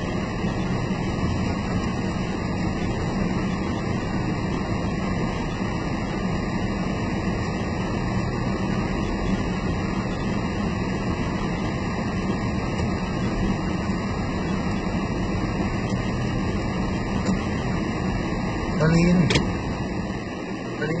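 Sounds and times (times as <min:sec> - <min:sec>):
air conditioning blowing: 0:00.0 - 0:21.0
road and engine drone: 0:00.0 - 0:21.0.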